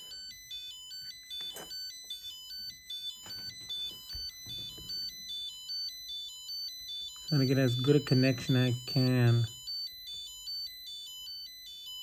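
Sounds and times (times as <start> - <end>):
spot welder buzzer beeping: 0.0 - 12.0.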